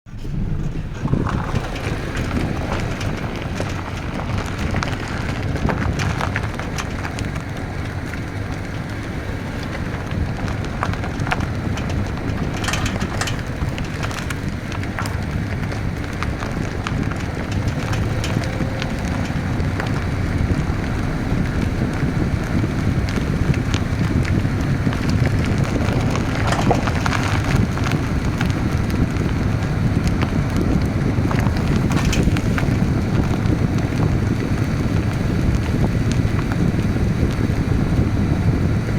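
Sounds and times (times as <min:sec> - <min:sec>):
clicks and rattles: 0:00.0 - 0:38.0
car engine rumbling: 0:00.0 - 0:38.9.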